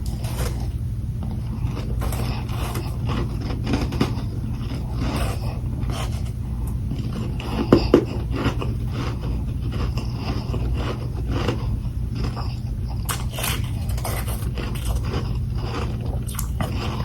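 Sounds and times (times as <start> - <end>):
chewing crunchy frost: 0.0 - 17.0
low hum: 0.0 - 17.0.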